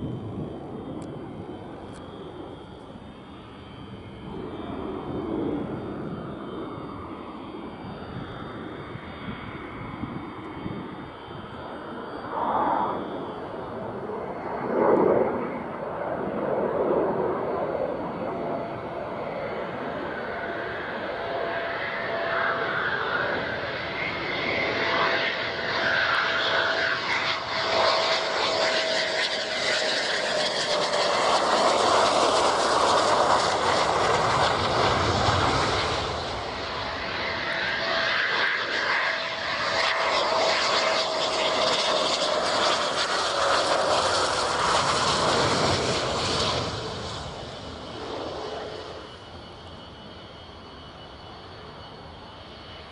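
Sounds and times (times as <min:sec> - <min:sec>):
jet engines roaring with whine: 0:00.0 - 0:52.9.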